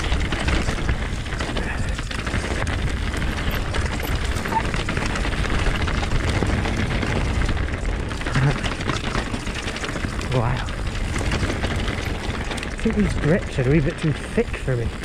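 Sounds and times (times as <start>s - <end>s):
bike rattling and clicking: 0.0s - 15.0s
tyres rumbling on dirt: 0.0s - 15.0s.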